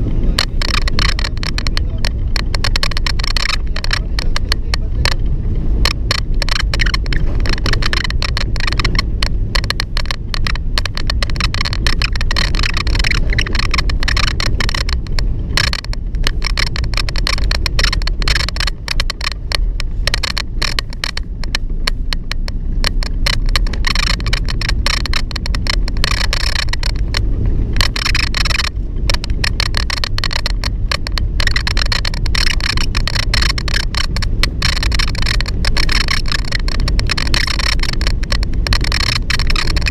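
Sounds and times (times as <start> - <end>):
vehicle driving rumble: 0.0 - 39.9
door squeaking and rattling: 5.8 - 39.9.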